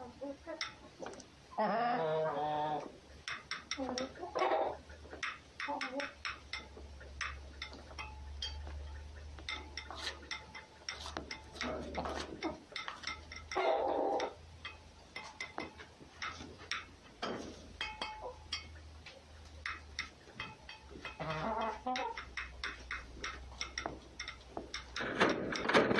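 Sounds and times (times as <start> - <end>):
small clicks and taps: 3.2 - 25.9.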